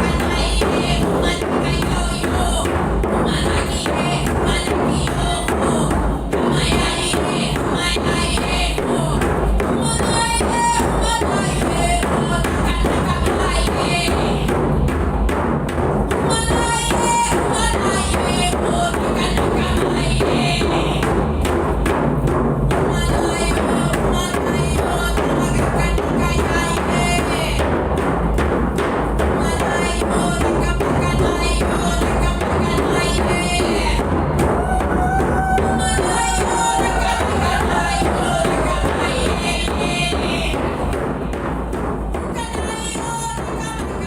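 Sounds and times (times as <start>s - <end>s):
music with driving percussion beat: 0.0s - 44.0s.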